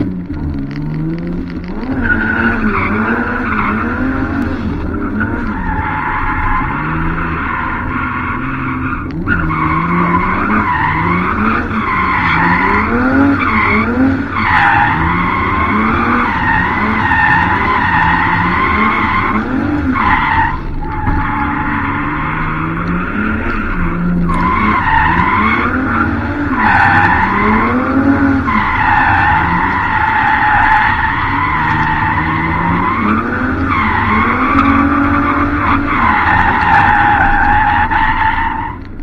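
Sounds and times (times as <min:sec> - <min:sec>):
car engine revving: 0:00.0 - 0:39.0
tires squealing: 0:00.0 - 0:39.0.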